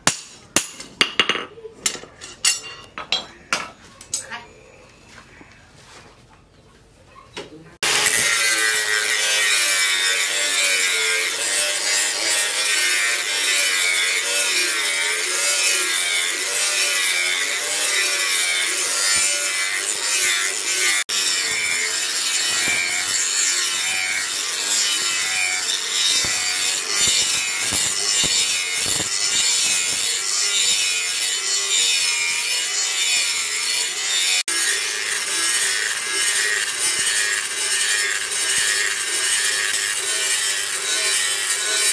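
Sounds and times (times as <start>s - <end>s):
angle grinder grinding steel: 7.8s - 41.9s.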